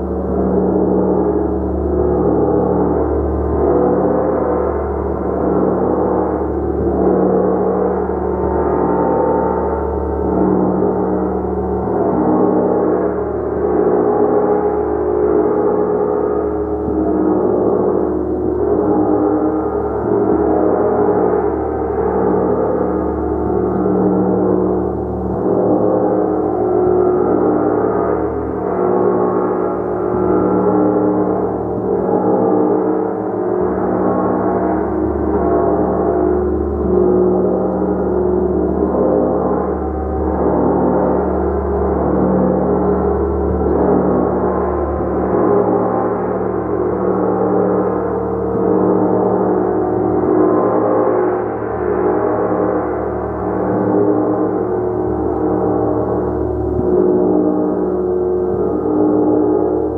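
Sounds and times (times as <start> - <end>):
large gong sustained wash: 0.0 - 59.9.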